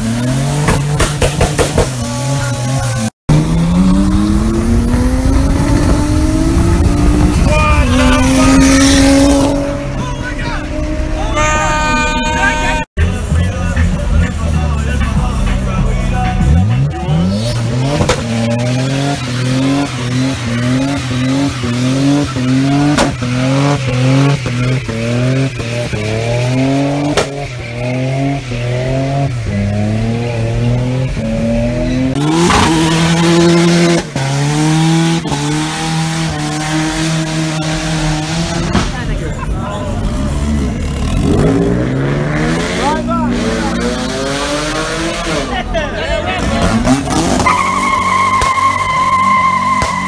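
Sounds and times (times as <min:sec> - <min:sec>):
car engine revving hard: 0:00.0 - 0:11.3, 0:16.4 - 0:50.0
tires squealing: 0:00.0 - 0:50.0.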